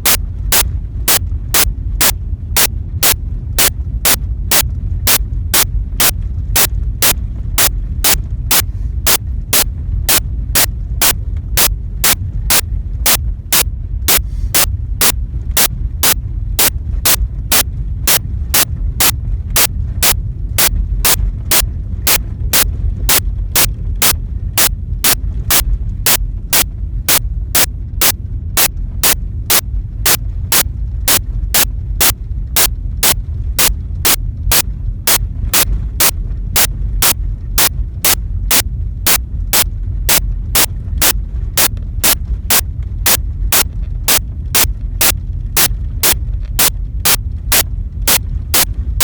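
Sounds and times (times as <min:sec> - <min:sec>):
sharp clicks: 0:00.0 - 0:14.7, 0:15.5 - 0:27.7, 0:28.6 - 0:48.7
low rumble: 0:00.0 - 0:49.0.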